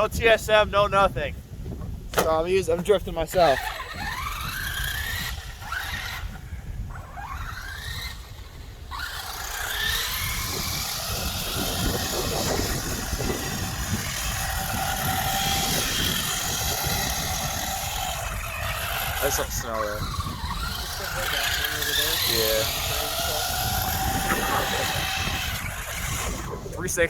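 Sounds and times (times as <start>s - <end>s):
electric motor whining: 1.6s - 27.0s
spinning tyres hissing: 1.8s - 27.0s.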